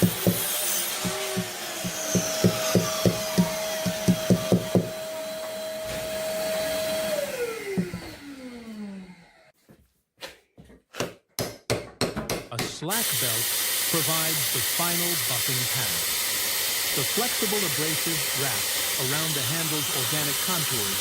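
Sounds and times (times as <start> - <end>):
workshop motor running: 0.0 - 9.5, 13.0 - 21.0.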